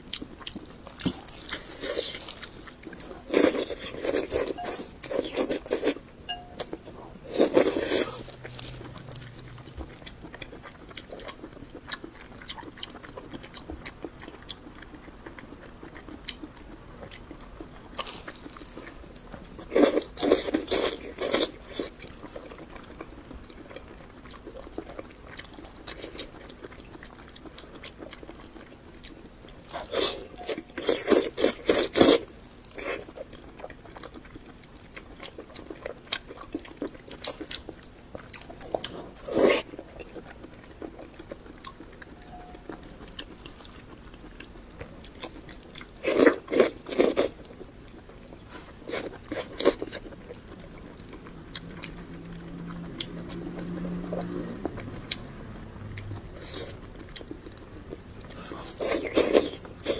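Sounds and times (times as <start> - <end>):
close chewing and biting: 0.0 - 59.9.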